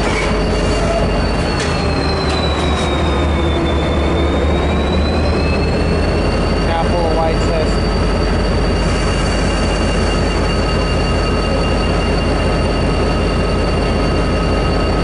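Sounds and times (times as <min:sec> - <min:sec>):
constant whine: 0:00.0 - 0:15.0.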